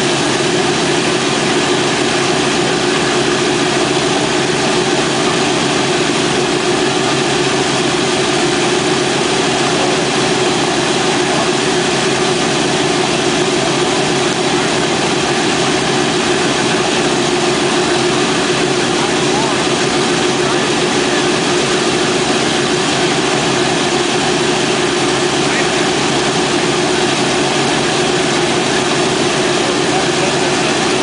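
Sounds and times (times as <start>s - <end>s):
radial aircraft engines running: 0.0s - 31.0s.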